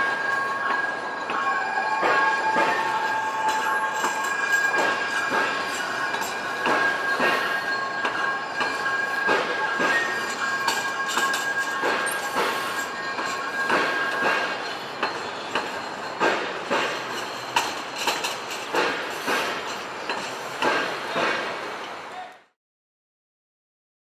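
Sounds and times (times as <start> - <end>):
wheels clacking over rail joints: 0.0 - 22.2
train wheels squealing: 0.0 - 22.3.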